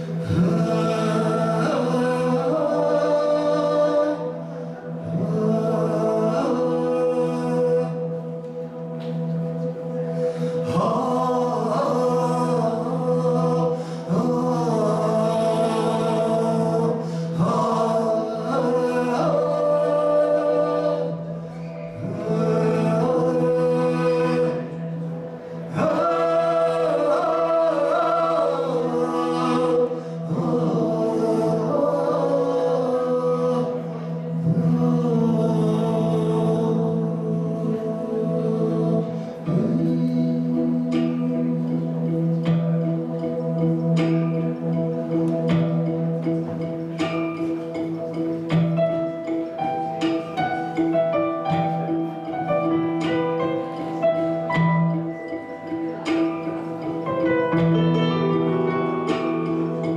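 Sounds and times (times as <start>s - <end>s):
chant-like singing: 0.0s - 59.9s.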